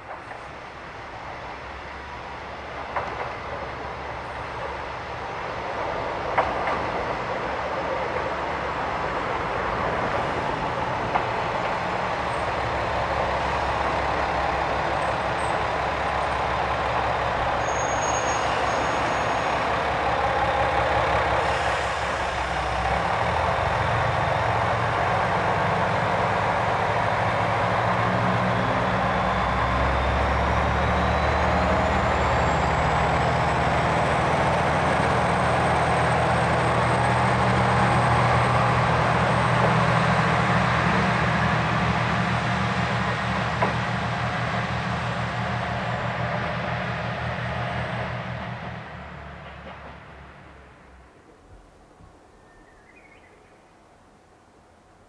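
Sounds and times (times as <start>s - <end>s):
diesel train engine: 0.0s - 52.1s.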